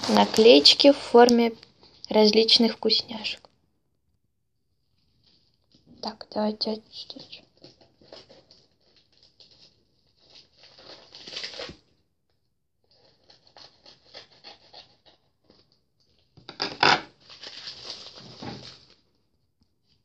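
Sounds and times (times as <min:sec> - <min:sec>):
plastic envelope rustling and tearing: 0:00.0 - 0:03.4, 0:05.0 - 0:12.0, 0:12.8 - 0:19.2.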